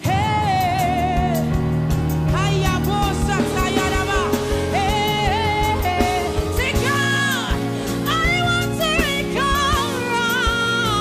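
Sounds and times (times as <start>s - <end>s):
guitar: 0.0s - 11.0s
keyboard: 0.0s - 11.0s
steady drum beat: 0.0s - 11.0s.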